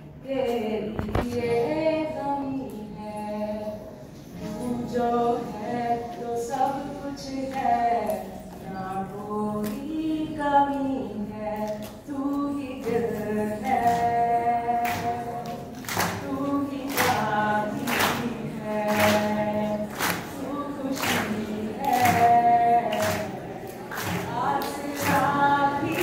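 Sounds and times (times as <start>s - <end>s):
woman singing: 0.2s - 26.0s.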